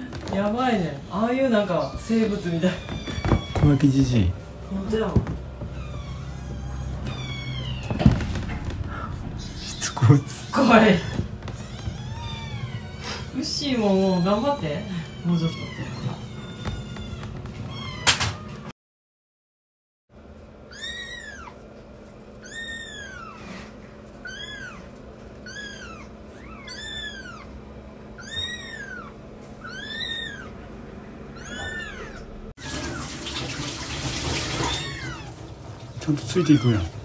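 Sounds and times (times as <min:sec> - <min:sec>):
kitten mewing: 0:00.0 - 0:18.7, 0:20.7 - 0:21.7, 0:22.4 - 0:30.6, 0:31.3 - 0:33.1, 0:34.4 - 0:37.0.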